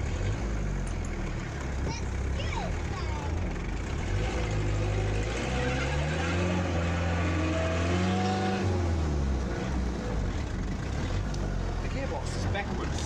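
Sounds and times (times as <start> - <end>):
bus engine revving under load: 0.0 - 13.0.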